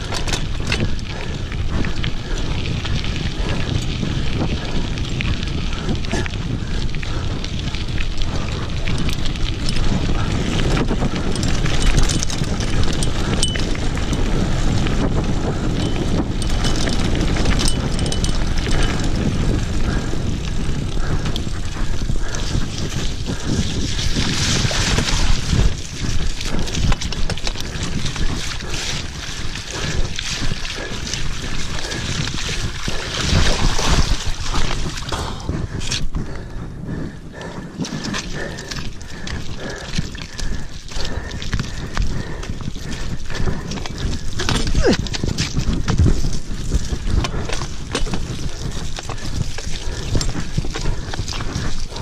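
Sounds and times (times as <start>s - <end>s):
bike rattling clicks and knocks: 0.0s - 52.0s
bike tyres rumbling on dirt: 0.0s - 52.0s
wind buffeting microphone: 0.0s - 52.0s.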